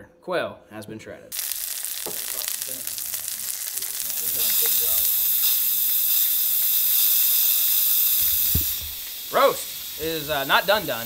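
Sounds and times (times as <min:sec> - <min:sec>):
meat sizzling in a skillet: 0:01.3 - 0:11.0.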